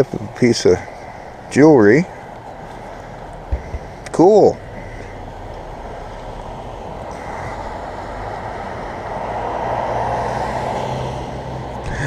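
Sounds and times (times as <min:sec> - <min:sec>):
vehicle driving past: 0:02.0 - 0:11.9
low engine hum: 0:02.1 - 0:12.0.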